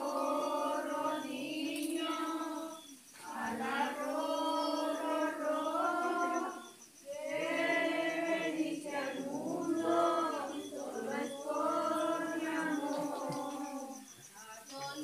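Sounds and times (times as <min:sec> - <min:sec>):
group singing christmas song: 0:00.0 - 0:15.0.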